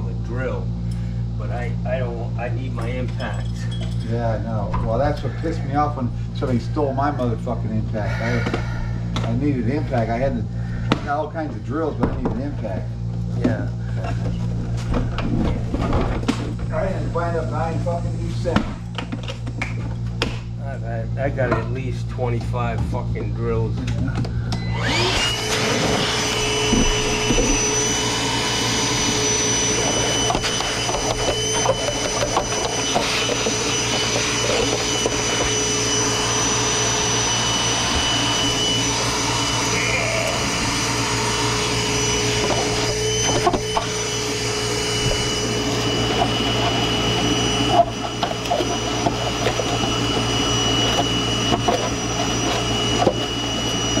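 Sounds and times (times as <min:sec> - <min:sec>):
vacuum cleaner motor whining: 0:04.4 - 0:20.6, 0:21.2 - 0:54.0.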